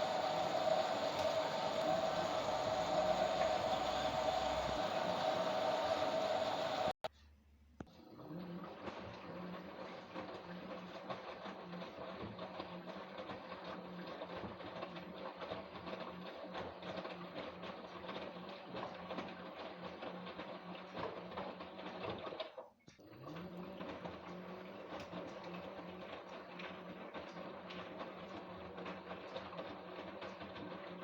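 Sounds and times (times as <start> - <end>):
washing machine motor humming: 0.0 - 7.1, 8.0 - 31.0.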